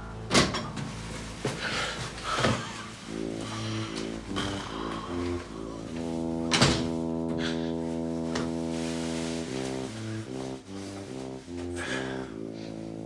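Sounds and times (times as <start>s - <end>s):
low brassy orchestral melody: 0.0s - 13.0s.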